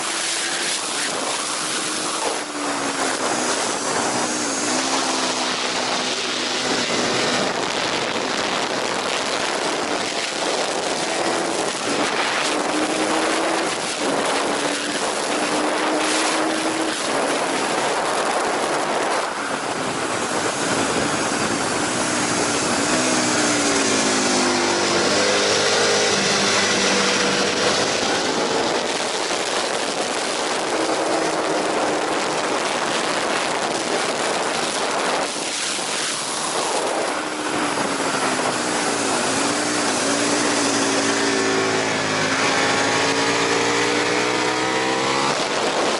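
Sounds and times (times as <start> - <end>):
motorcycle engine racing: 0.0 - 45.9
wind rush on microphone: 0.0 - 45.9.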